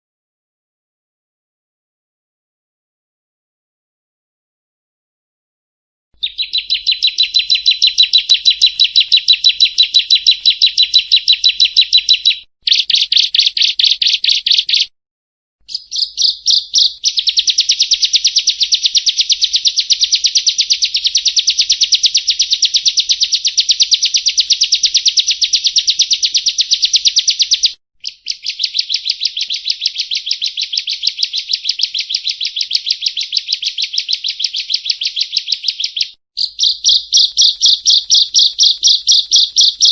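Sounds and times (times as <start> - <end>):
bird chirping rapidly: 6.2 - 14.9, 15.6 - 39.9.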